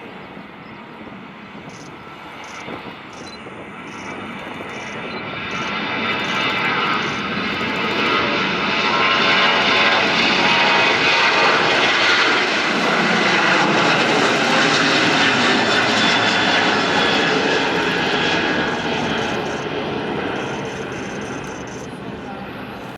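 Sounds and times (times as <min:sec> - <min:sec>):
jet engine whine: 0:00.0 - 0:22.9
jet engines at takeoff: 0:00.0 - 0:22.9.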